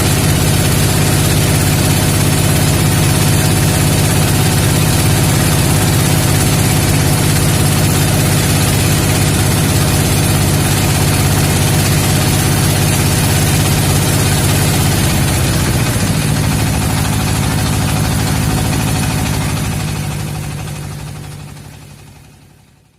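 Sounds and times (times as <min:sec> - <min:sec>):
motor engine running: 0:00.0 - 0:22.9.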